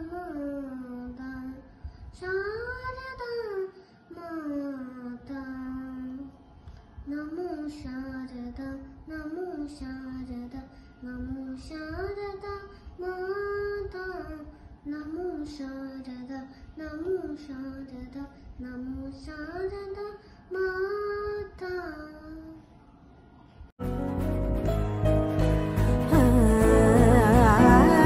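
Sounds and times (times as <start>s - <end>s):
boy singing: 0.0s - 6.3s, 7.0s - 22.6s, 26.1s - 28.0s.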